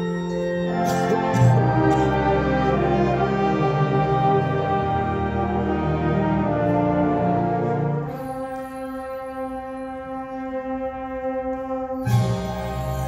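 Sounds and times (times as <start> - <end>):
concert band playing slow chords: 0.0 - 13.0.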